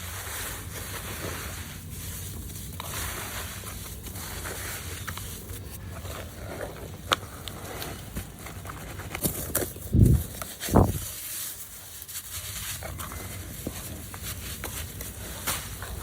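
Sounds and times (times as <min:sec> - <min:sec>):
hands crumbling dry dirt: 0:00.0 - 0:16.0.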